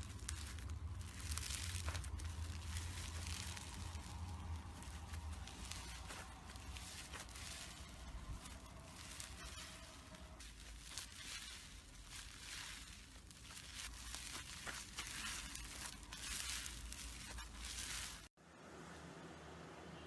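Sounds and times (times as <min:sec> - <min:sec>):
slime crackling: 0:00.0 - 0:18.4.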